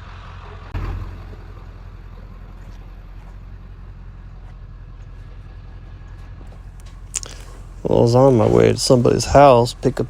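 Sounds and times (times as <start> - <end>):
truck engine rumble: 0.0 - 10.0.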